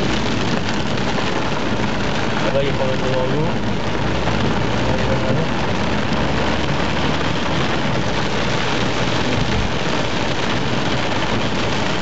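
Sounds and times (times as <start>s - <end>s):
car engine rumble: 0.0s - 12.0s
heavy rain on car roof: 0.0s - 12.0s
tyres on wet road: 0.0s - 12.0s.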